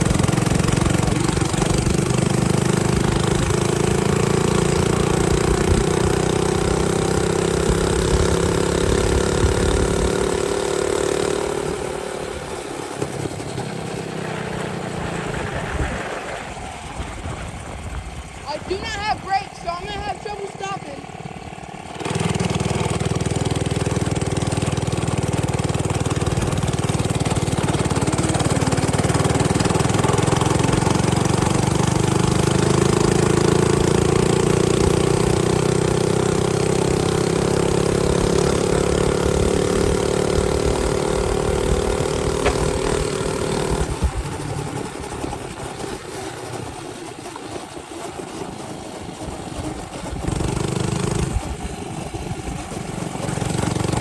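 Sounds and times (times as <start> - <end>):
minibike engine running: 0.0 - 54.0.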